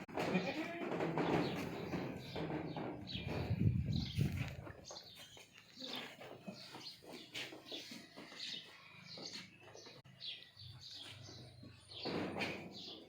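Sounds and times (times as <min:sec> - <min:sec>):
small birds chirping: 0:01.2 - 0:13.0.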